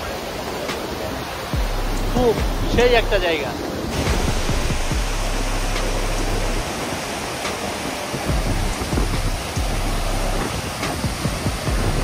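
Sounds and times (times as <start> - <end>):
river tumbling over rocks: 0.0 - 12.0
waterfall rushing: 0.0 - 12.0
wind buffeting microphone: 0.0 - 12.0.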